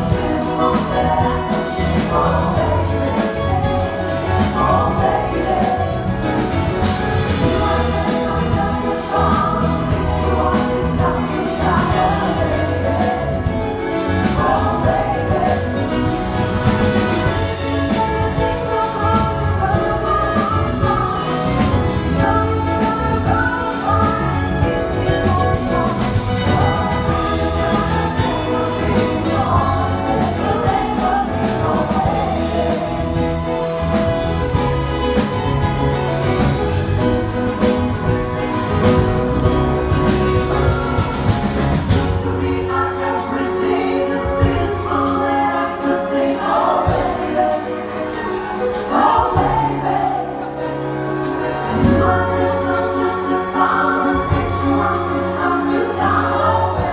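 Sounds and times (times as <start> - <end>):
big band music: 0.0 - 56.9.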